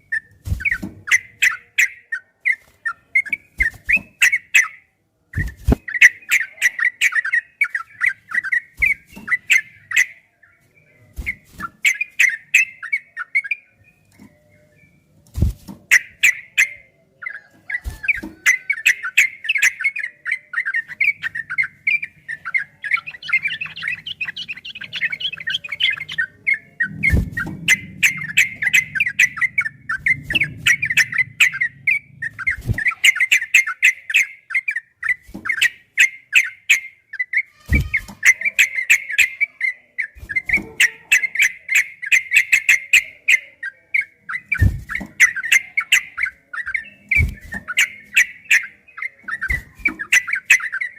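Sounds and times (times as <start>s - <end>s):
bird chirping song: 0.0s - 50.9s.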